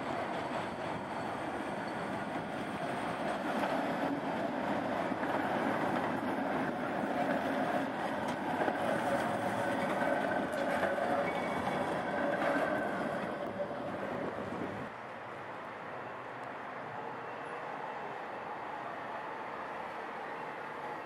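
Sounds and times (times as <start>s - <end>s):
tram wheels rolling on rails: 0.0s - 21.0s.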